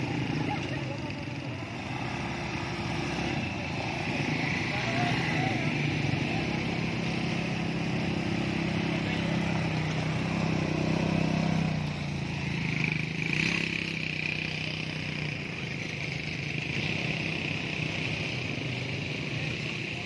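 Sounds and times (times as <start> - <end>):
quad bike engines idling: 0.0 - 20.0.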